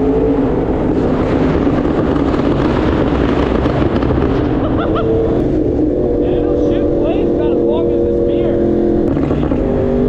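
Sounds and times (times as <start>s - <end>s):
wind rush on microphone: 0.0s - 10.0s.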